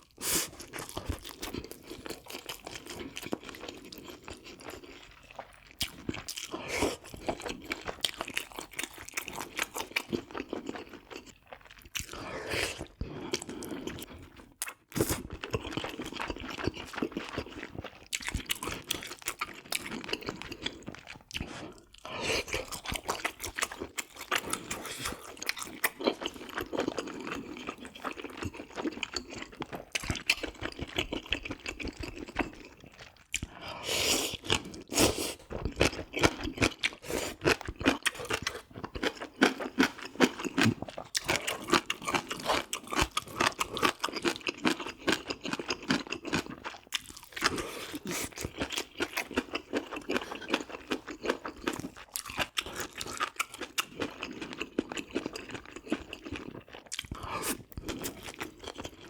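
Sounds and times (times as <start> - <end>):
chewing and lip-smacking: 0.1 - 33.6, 34.3 - 59.0.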